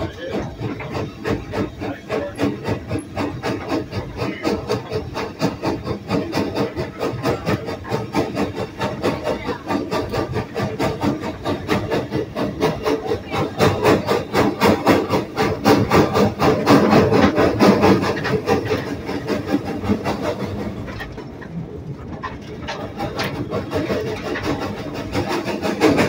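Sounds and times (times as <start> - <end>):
steam locomotive chuffing: 0.0 - 26.0.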